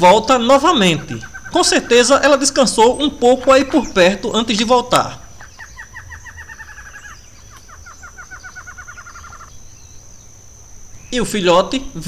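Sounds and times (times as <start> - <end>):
bird trilling: 0.0 - 11.6.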